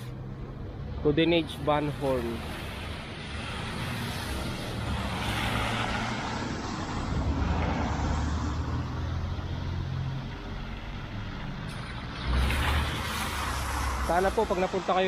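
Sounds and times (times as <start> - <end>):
cars driving past on wet road: 0.0 - 15.0.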